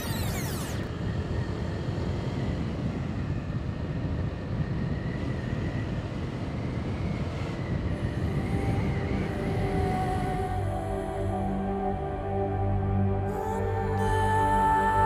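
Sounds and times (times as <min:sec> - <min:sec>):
wind rush: 0:00.0 - 0:14.3.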